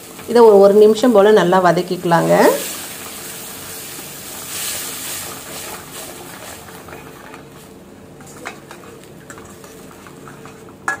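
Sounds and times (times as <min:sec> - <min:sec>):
light sizzle from pan: 0:00.0 - 0:11.0.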